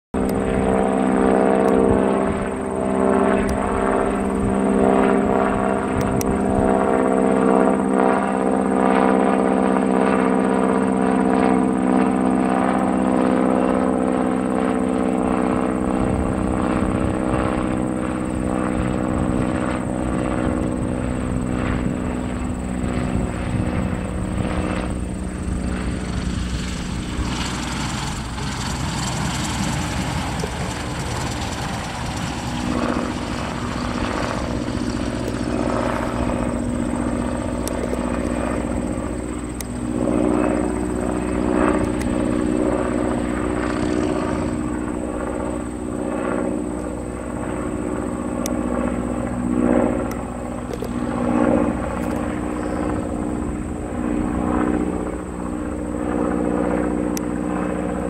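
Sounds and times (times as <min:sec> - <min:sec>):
propeller plane engine droning: 0:00.1 - 0:58.0.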